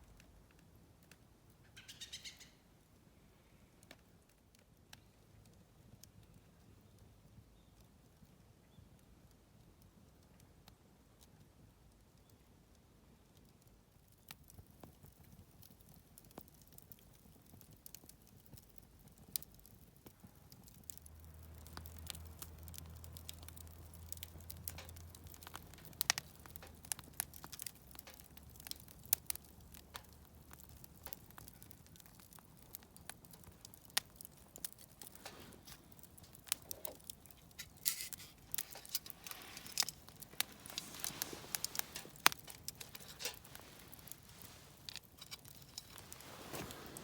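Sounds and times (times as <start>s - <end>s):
campfire crackling: 0.0s - 3.1s, 3.7s - 47.0s.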